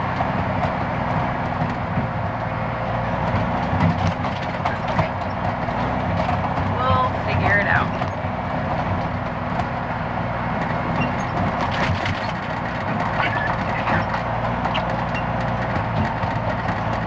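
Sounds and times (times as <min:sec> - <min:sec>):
diesel engine running: 0:00.0 - 0:17.0
truck body rattles and knocks: 0:00.0 - 0:17.0.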